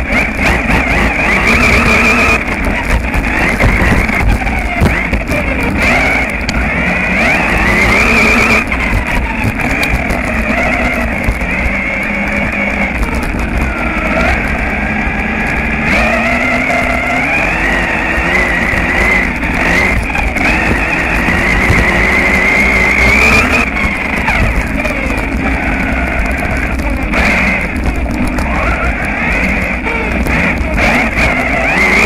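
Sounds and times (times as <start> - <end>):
toy car motor whining: 0.0 - 32.0
tyres rushing on gravel: 0.0 - 32.0.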